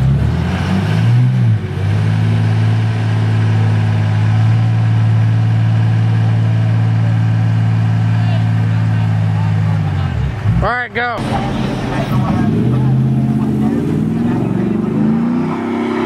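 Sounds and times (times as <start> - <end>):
pickup engine at high revs: 0.0 - 16.0.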